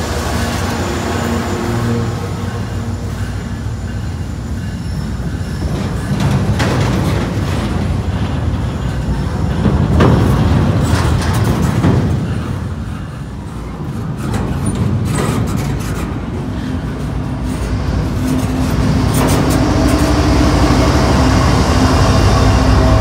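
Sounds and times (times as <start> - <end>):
diesel locomotive engine hum: 0.0 - 23.0
train wheels clacking over rail: 0.0 - 23.0.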